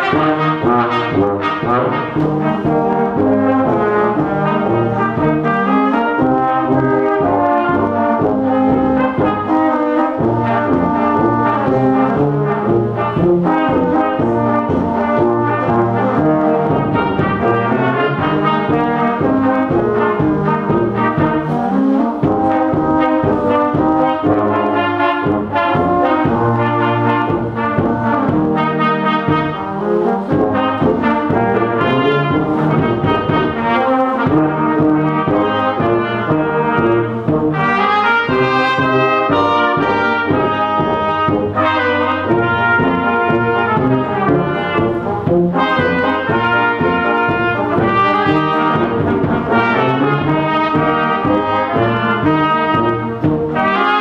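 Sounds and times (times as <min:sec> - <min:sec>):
brass band playing slow piece: 0:00.0 - 0:54.0.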